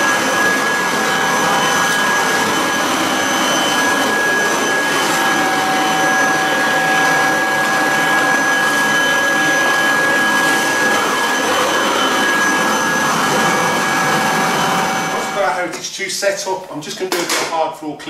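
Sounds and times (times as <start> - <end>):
vacuum cleaner running: 0.0 - 15.9.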